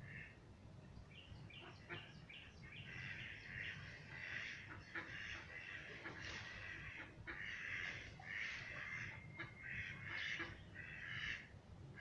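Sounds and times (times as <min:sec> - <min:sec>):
birds giving harsh raspy calls: 0:01.5 - 0:12.0.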